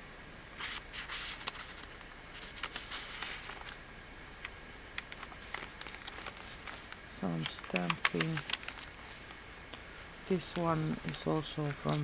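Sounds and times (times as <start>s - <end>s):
page turning: 0.6s - 3.8s, 4.4s - 12.0s
paper rustling: 0.6s - 3.8s, 5.0s - 12.0s.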